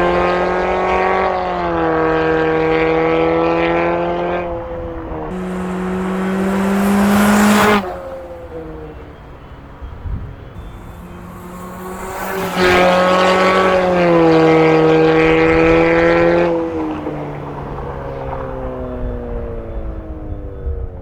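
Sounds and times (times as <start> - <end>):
loud car exhaust: 0.0 - 20.3.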